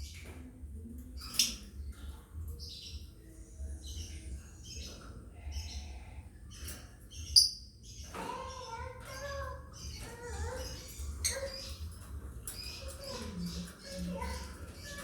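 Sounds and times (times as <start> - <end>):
lovebirds chirping and squawking: 1.2 - 15.0.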